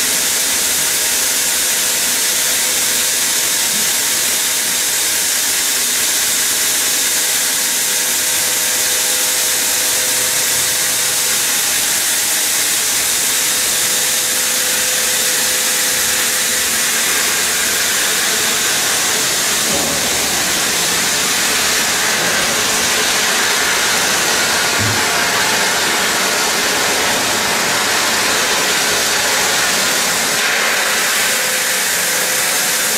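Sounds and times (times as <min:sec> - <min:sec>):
saw blade cutting stone: 0:06.0 - 0:32.9.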